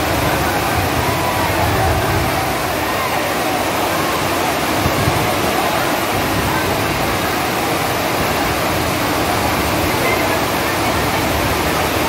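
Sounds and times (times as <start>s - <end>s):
crowd voices: 0.0s - 12.0s
heavy rain pouring: 0.0s - 12.0s.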